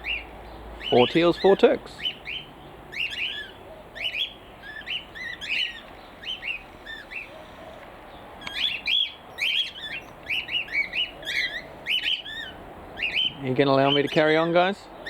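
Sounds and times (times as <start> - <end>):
cockatiels squawking: 0.8 - 7.6, 8.4 - 14.7.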